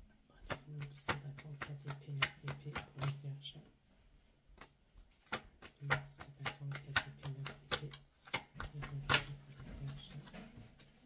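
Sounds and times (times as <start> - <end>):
cards being shuffled: 0.4 - 3.2, 4.6 - 11.0.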